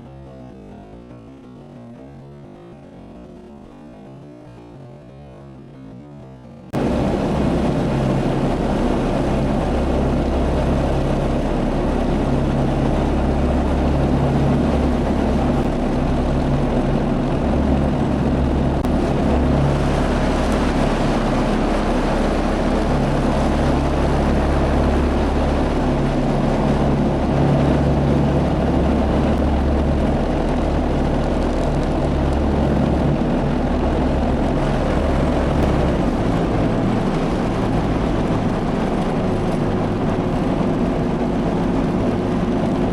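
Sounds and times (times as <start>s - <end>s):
heavy engine droning: 5.5s - 42.9s.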